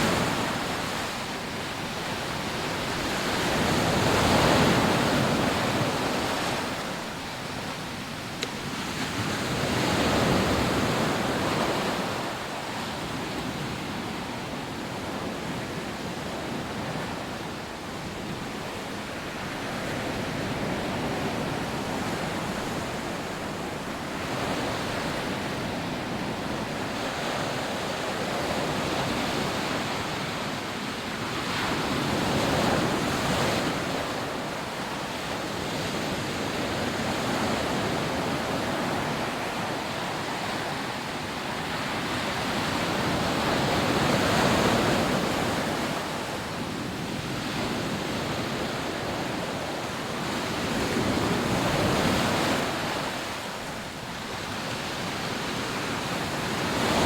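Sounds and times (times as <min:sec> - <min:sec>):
waves breaking on beach: 0:00.0 - 0:57.0.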